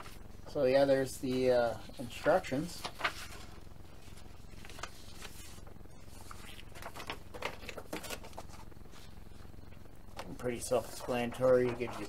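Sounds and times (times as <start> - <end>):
paper sheets rustling: 1.2 - 9.2, 10.2 - 12.0.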